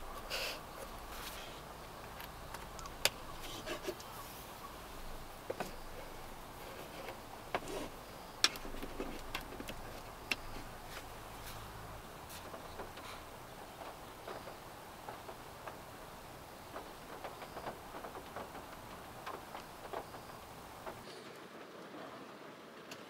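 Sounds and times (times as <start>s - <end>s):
raindrops tapping on car roof: 0.8s - 3.4s, 4.7s - 23.0s.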